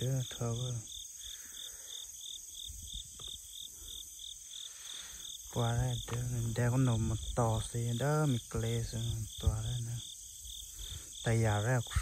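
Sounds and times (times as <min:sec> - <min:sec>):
crickets chirping: 0:00.0 - 0:12.0
high insect hiss: 0:00.0 - 0:12.0.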